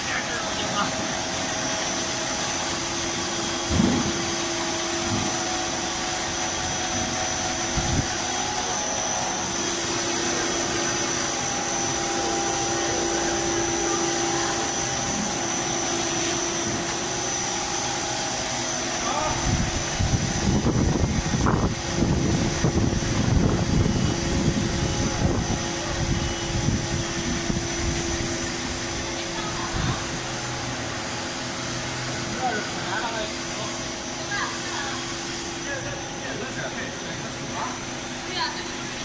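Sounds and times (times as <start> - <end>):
high machine whine: 0.0 - 39.0
machine hum and whir: 0.0 - 39.0.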